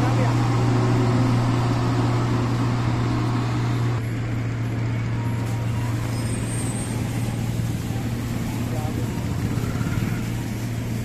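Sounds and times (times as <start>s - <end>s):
heavy vehicle engine humming: 0.0s - 11.0s.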